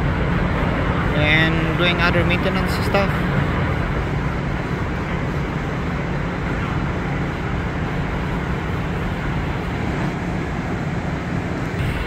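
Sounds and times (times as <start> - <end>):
machinery rumble with hiss: 0.0 - 12.0.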